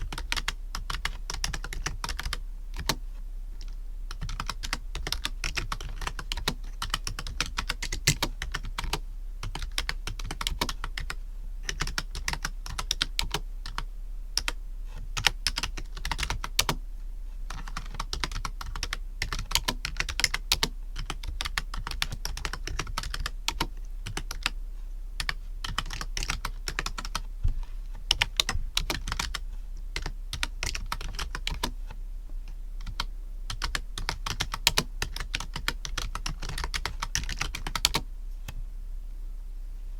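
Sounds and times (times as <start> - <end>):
computer keyboard typing: 0.0 - 3.0, 3.6 - 14.6, 15.2 - 16.8, 17.5 - 24.6, 25.2 - 27.3, 28.1 - 29.4, 30.0 - 31.8, 32.8 - 38.1
low background hum: 0.0 - 39.9.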